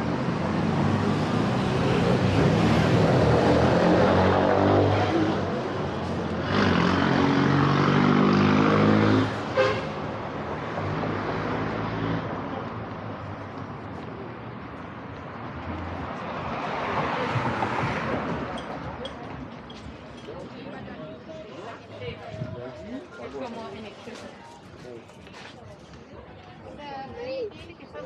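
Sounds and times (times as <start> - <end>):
street noise: 0.0 - 28.0.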